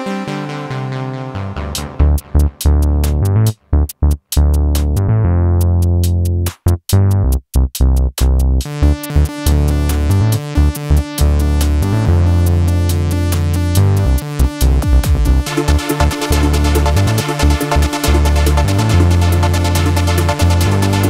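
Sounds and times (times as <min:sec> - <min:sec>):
electronic music with drum machine: 0:00.0 - 0:21.0.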